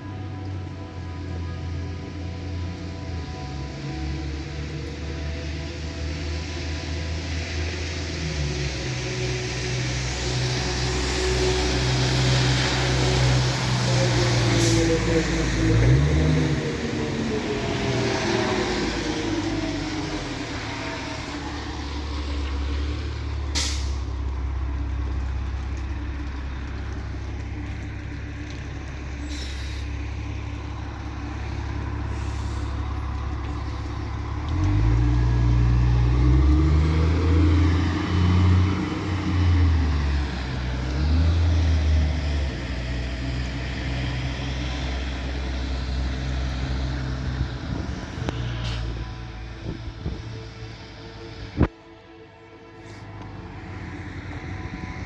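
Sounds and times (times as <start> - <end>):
low droning horn-like hum: 0.0 - 55.0.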